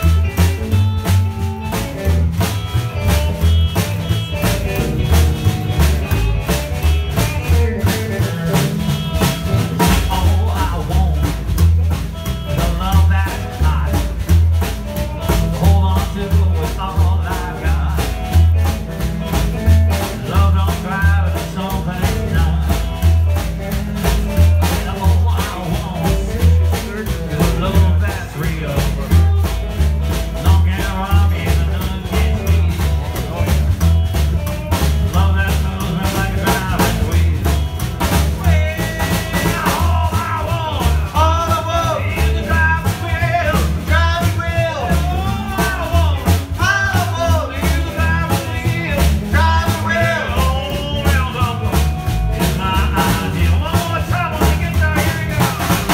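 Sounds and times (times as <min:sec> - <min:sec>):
live band playing: 0:00.0 - 0:55.9
snare drum: 0:00.0 - 0:55.9
strummed acoustic guitar: 0:00.0 - 0:55.9
upright bass thumping: 0:00.0 - 0:55.9.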